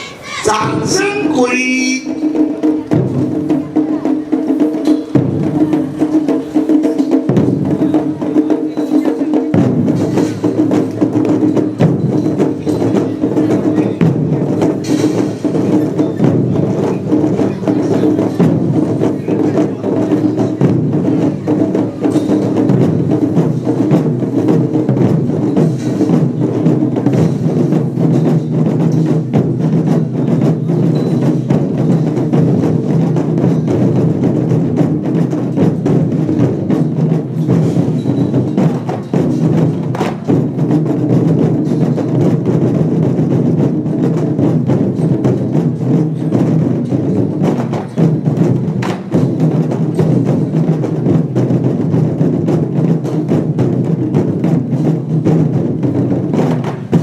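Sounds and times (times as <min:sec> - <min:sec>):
cymbals: 0:00.0 - 0:57.0
rapid drumming: 0:00.0 - 0:57.0.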